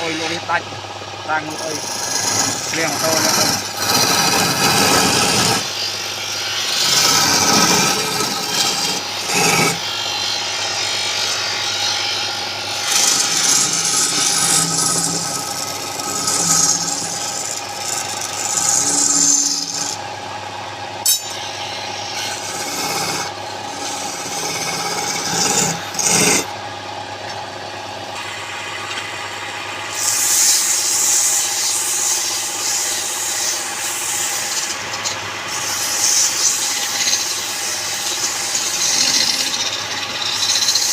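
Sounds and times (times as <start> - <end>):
lathe motor hum: 0.0 - 40.9
tool scraping spinning wood: 0.0 - 40.9.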